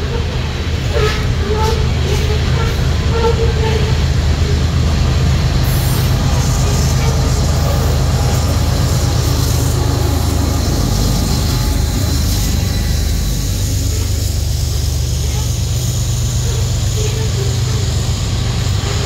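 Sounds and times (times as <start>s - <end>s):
diesel locomotive engines running: 0.0s - 19.0s
train cars rumbling on rails: 0.0s - 19.0s.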